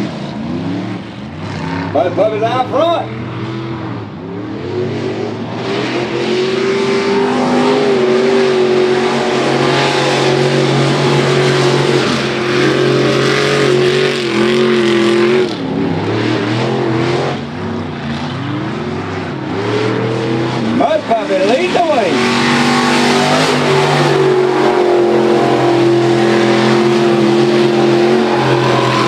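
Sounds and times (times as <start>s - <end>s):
vehicle engines revving in mud: 0.0s - 29.0s.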